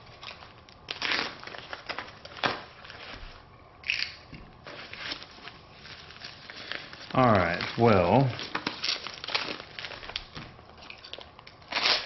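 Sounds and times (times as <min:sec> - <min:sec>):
newspaper rustling and crinkling: 0:00.0 - 0:03.4, 0:04.6 - 0:12.0.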